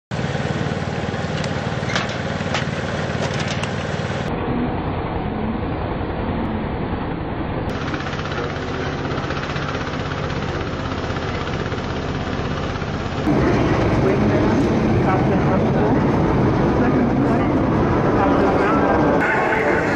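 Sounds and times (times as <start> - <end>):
engine humming steadily: 0.1 - 19.9.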